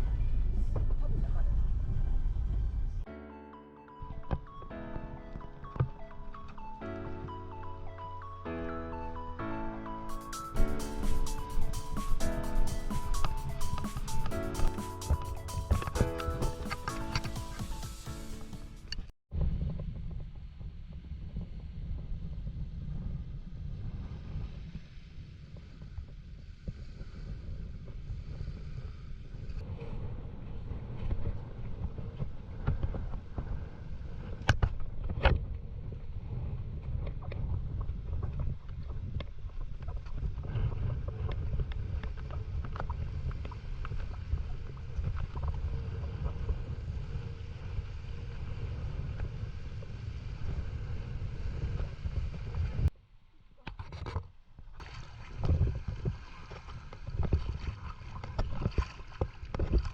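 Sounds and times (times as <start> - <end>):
wind noise on microphone: 0.0 - 3.1, 4.0 - 52.9, 54.8 - 59.9
water noise: 3.8 - 19.1, 23.8 - 52.9, 54.7 - 59.9.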